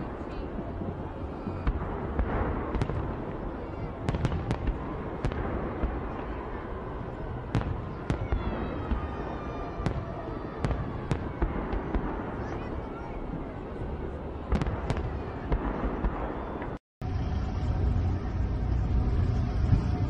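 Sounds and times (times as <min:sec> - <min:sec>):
fireworks bangs: 0:00.0 - 0:16.8
continuous low rumble: 0:00.0 - 0:20.0.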